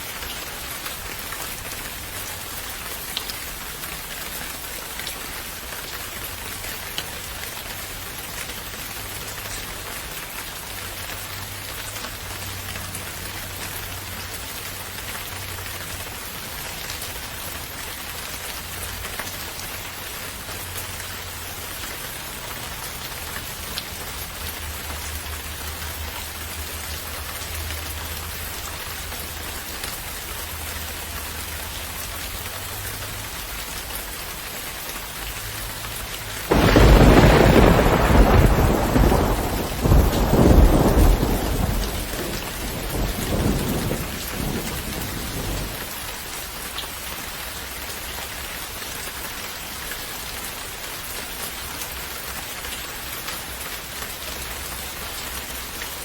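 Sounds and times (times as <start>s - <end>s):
rain pattering on a surface: 0.0s - 56.0s.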